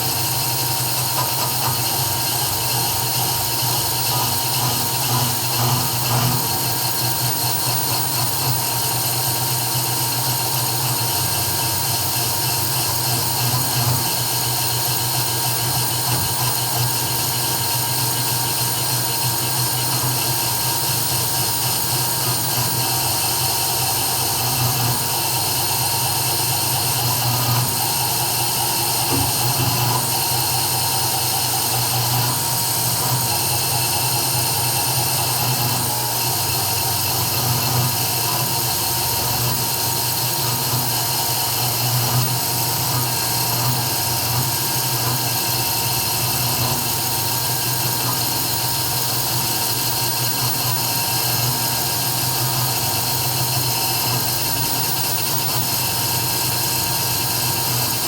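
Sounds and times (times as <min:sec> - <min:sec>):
router spindle whining: 0:00.0 - 0:58.0.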